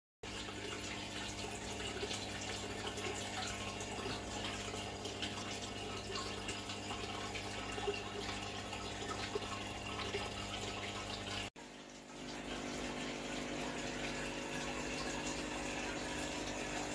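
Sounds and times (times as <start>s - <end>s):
aquarium water trickling and bubbling: 0.2s - 16.9s.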